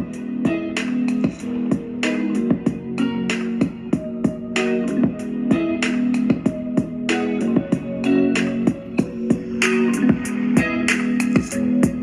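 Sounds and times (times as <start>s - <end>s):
song through small speaker: 0.0s - 12.0s.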